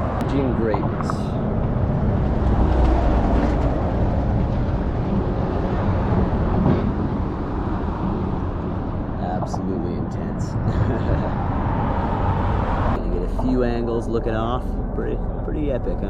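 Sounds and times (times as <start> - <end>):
road traffic rumble on bridge: 0.0 - 16.0.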